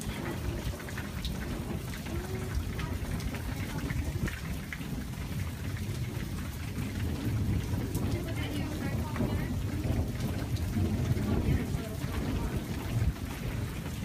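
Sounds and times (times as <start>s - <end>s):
low rumble of thunder: 0.0s - 14.0s
raindrops ticking: 0.0s - 14.0s
steady rain falling: 0.0s - 14.0s.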